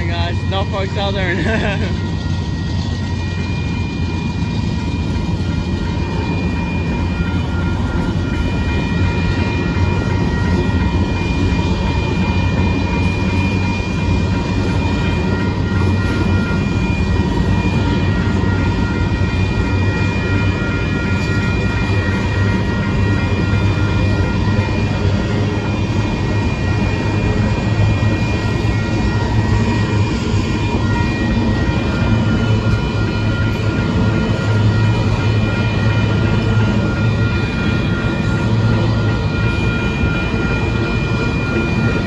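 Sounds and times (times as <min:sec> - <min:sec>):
high ringing tones: 0:00.0 - 0:42.0
train wheels rumbling on rail: 0:00.0 - 0:42.0.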